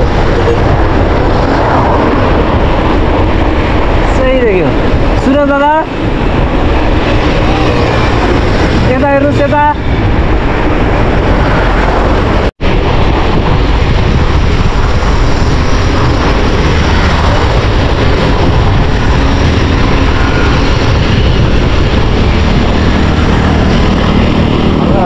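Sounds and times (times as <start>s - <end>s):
road and traffic noise: 0.0s - 25.0s
wind rush on microphone: 0.0s - 25.0s.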